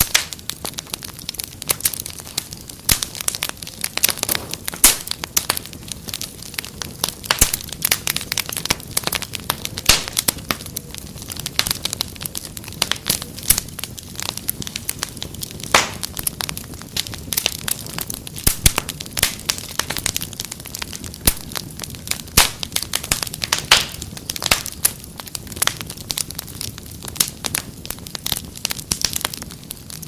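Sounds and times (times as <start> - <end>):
low rumble of flames: 0.0 - 30.0
wood fire popping and snapping: 0.0 - 30.0.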